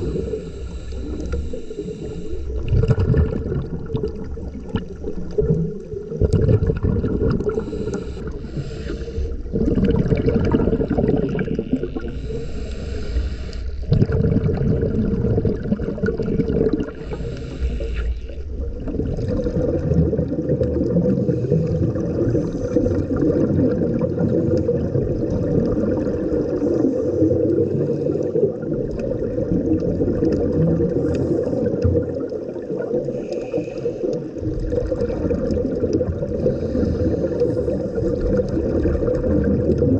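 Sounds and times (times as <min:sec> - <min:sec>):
bubbling hiss: 0:00.0 - 0:39.9
underwater rumble of moving water: 0:00.0 - 0:39.9.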